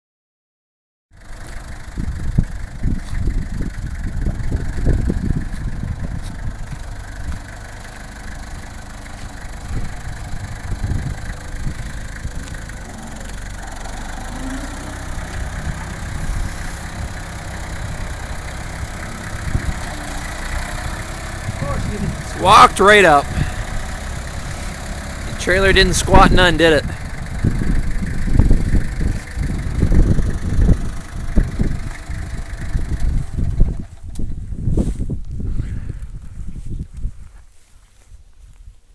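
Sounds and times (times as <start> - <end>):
tractor engine rumbling under load: 1.1 - 38.4.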